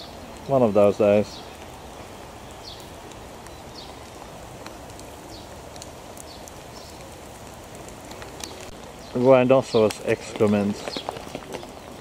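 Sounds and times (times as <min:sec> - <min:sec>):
rain on puddle and pavement: 0:00.0 - 0:12.0.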